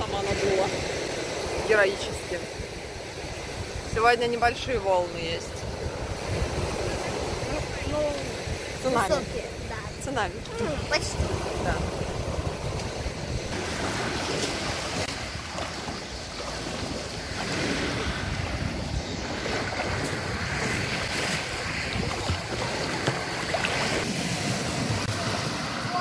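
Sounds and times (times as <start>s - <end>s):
small waves washing in: 0.0s - 26.0s
wind buffeting microphone: 0.0s - 26.0s.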